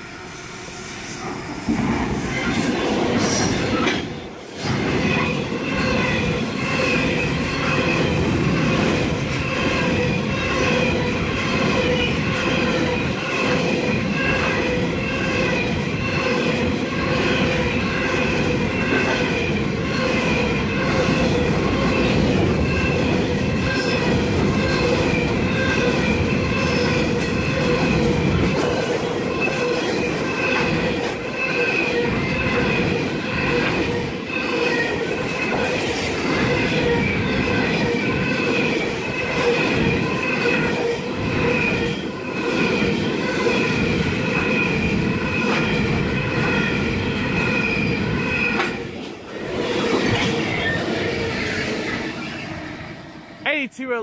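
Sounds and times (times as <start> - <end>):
train wheels squealing: 0.0 - 48.9, 49.7 - 52.9.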